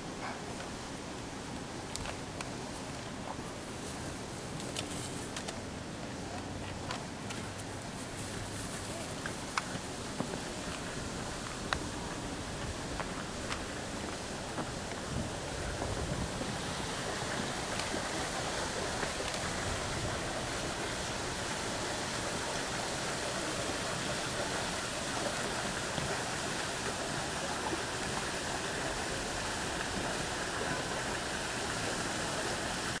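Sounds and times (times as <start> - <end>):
running water rushing: 0.0 - 33.0.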